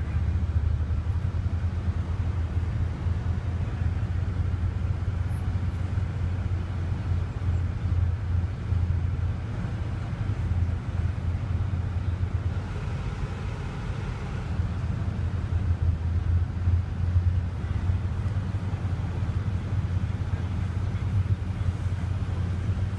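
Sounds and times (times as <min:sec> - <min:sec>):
faint traffic noise: 0:00.0 - 0:22.9
low engine rumble: 0:00.0 - 0:22.9.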